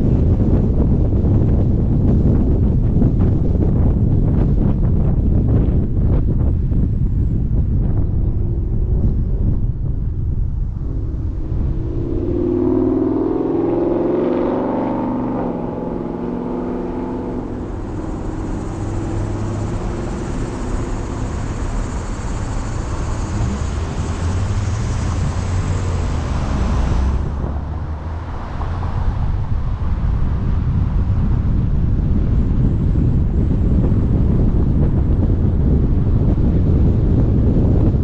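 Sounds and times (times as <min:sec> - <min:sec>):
low rumble: 0:00.0 - 0:38.0
tyre and road noise: 0:00.0 - 0:38.0.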